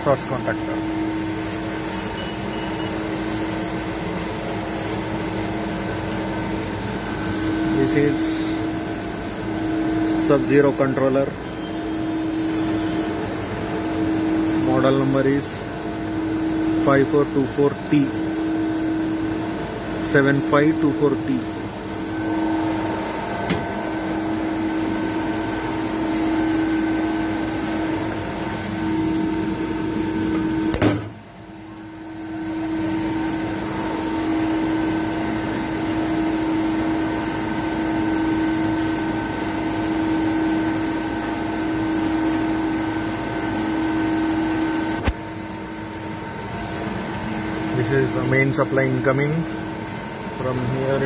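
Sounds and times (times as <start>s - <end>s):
refrigeration machine hum: 0.0s - 51.0s.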